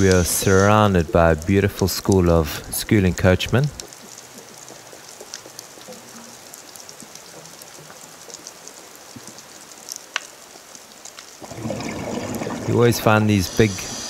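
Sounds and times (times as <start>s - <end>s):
underwater reef crackling: 0.0s - 14.0s.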